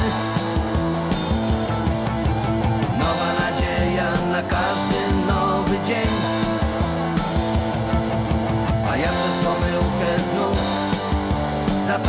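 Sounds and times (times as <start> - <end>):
instrumental pop band music: 0.0 - 12.0.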